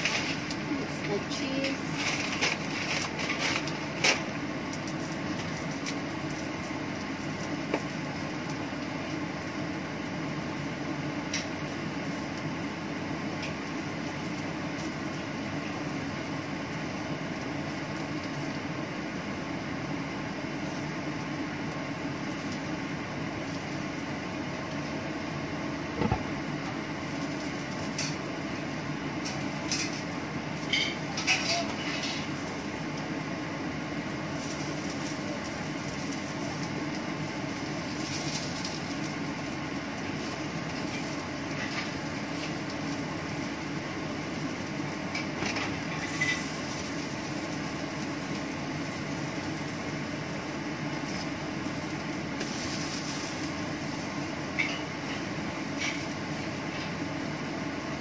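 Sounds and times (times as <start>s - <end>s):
range hood fan humming: 0.0s - 58.0s.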